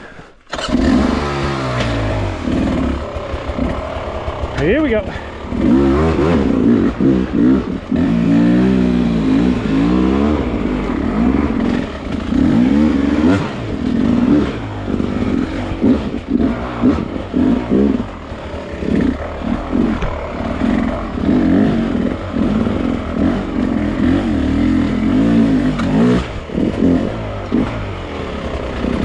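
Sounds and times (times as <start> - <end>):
dirt bike engine revving: 0.5 - 29.0.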